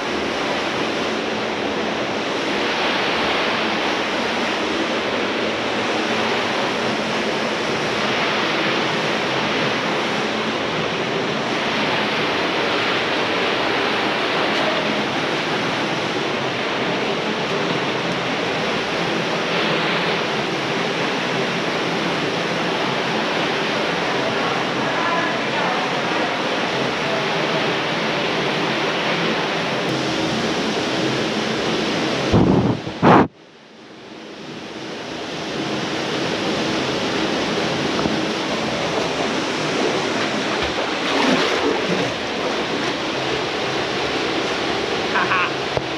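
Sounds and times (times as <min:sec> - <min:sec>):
creek water rushing and splashing: 0:00.0 - 0:33.3, 0:34.8 - 0:45.9.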